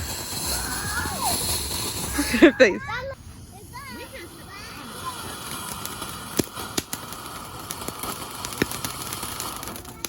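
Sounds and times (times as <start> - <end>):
fireworks crackling hiss: 0.0 - 10.0
fireworks popping and cracking: 0.0 - 10.0.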